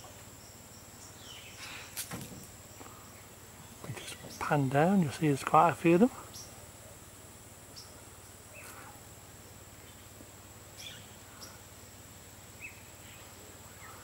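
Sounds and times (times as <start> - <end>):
faint bird chirps: 0.0 - 4.6, 6.1 - 14.0
high-pitched insect buzz: 0.0 - 14.0.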